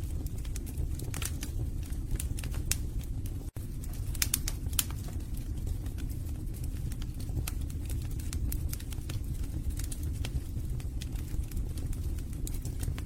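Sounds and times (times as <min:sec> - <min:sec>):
fire flames rumbling: 0:00.0 - 0:13.0
logs crackling and popping: 0:00.0 - 0:13.0.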